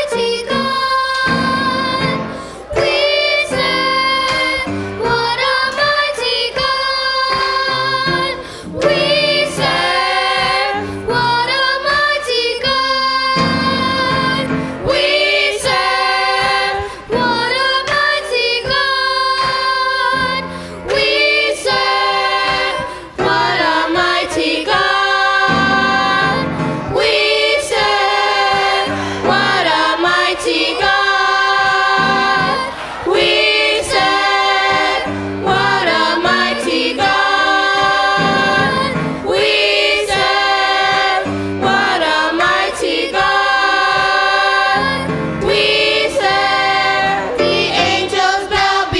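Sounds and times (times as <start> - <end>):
choir singing gospel song: 0.0 - 48.9
low accompaniment: 0.0 - 48.9.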